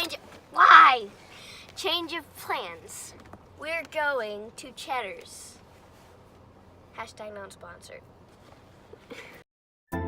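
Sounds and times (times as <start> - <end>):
faint background hum: 0.0 - 9.4.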